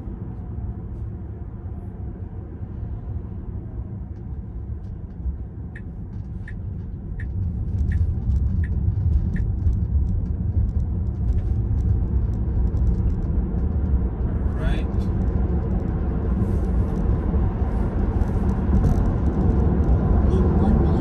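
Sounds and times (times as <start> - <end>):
road and tyre rumble: 0.0 - 21.0.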